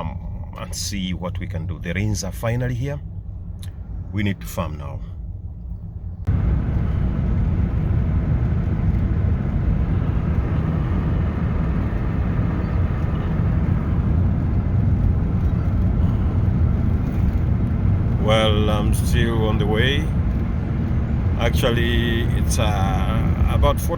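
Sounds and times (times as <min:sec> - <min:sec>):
car road and wind noise: 0:00.0 - 0:23.9.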